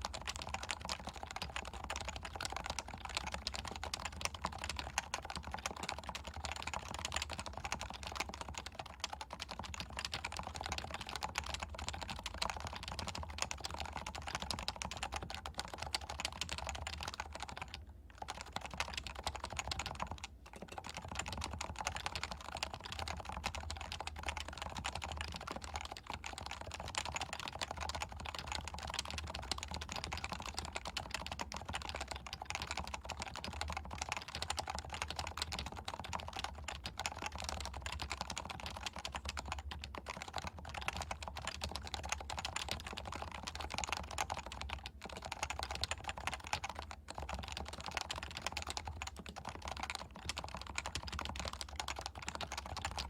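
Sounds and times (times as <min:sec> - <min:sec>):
fast keyboard typing: 0:00.0 - 0:53.0.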